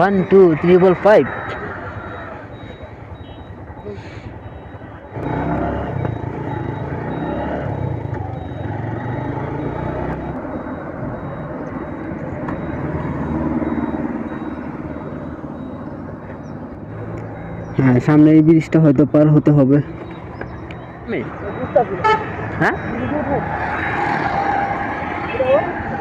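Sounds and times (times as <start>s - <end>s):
road and traffic noise: 0.0s - 26.0s.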